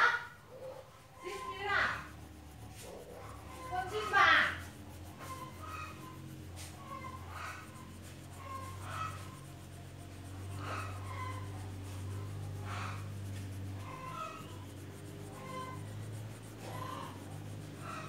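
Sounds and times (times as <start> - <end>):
crayon scratching on paper: 0.9 - 18.0
low hum: 1.1 - 18.0.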